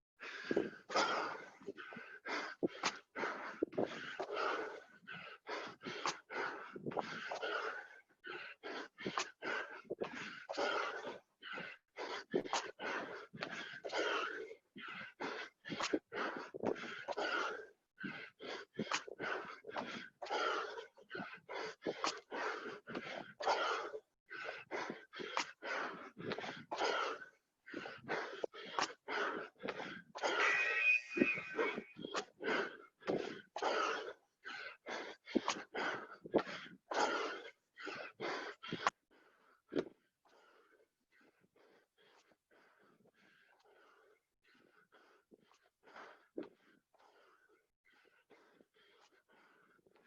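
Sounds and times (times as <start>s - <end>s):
man panting hard: 0.2s - 50.0s.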